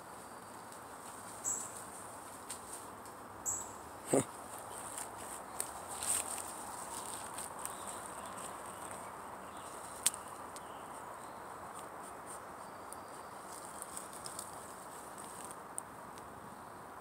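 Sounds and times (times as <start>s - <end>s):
rustling of dry leaf litter: 0.0s - 3.0s, 4.2s - 16.0s.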